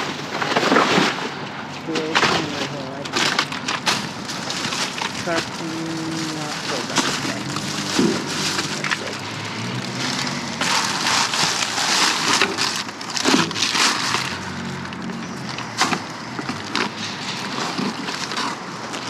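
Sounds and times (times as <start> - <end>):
plastic bags rustling and crinkling: 0.0 - 19.0.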